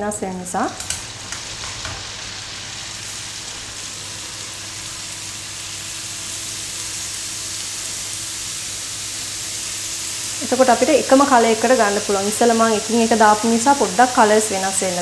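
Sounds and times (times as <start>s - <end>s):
dough deep-frying in oil: 0.7s - 15.0s.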